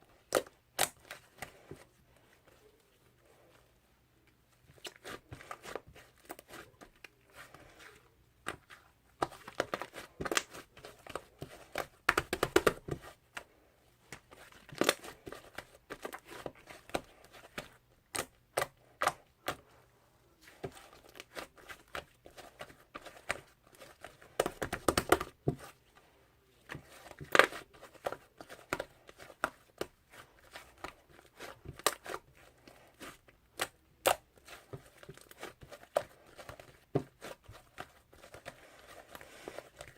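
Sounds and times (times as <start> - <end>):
hands squishing slime: 0.1 - 3.6, 4.5 - 19.7, 20.4 - 39.9.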